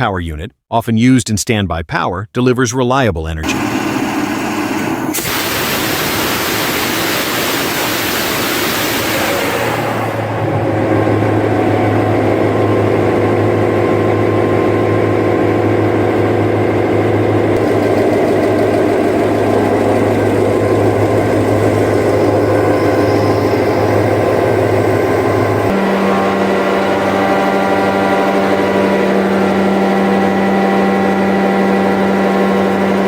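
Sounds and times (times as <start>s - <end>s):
diesel generator engine running: 3.4s - 33.0s.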